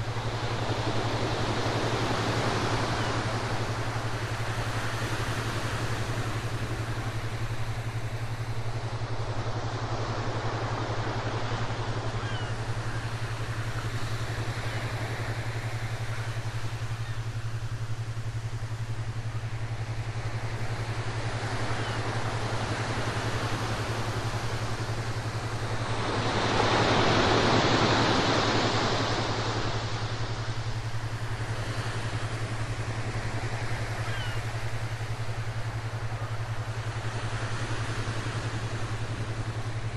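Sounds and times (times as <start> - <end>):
ocean waves washing in: 0.0 - 39.9
steady low hum: 0.0 - 39.9.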